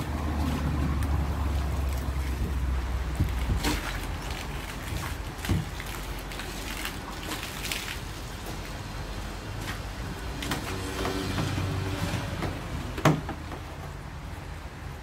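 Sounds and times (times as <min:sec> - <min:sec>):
water jet spraying car: 0:00.0 - 0:15.0.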